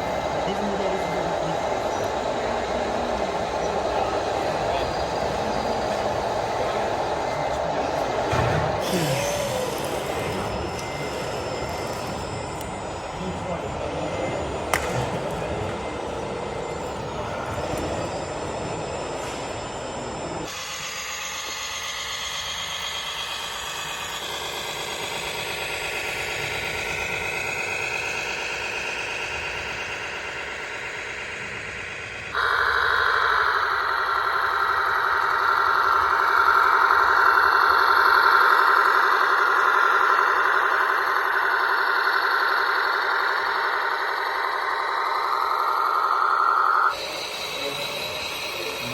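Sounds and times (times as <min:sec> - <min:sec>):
model truck motor whine: 0:00.0 - 0:48.9.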